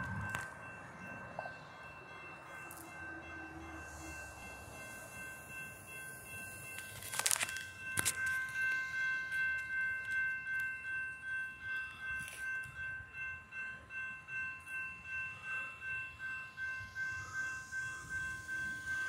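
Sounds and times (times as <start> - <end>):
crossing warning bells ringing: 0.0 - 19.0.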